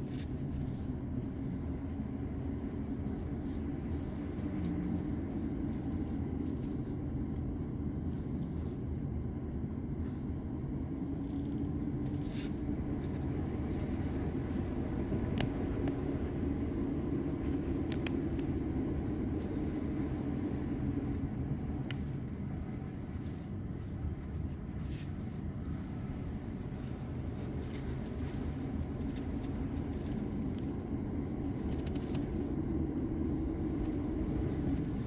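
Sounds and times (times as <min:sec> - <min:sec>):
vehicle rumble: 0:00.0 - 0:35.0.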